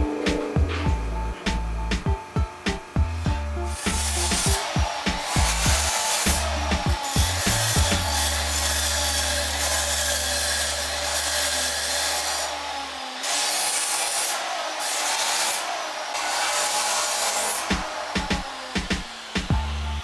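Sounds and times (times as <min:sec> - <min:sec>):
power tool rasping on metal: 0:02.5 - 0:20.0.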